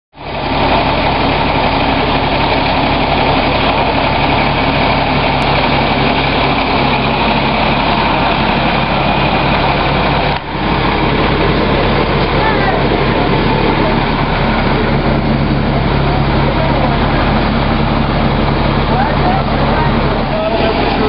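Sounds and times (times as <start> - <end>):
truck engine idling: 0.2 - 21.0.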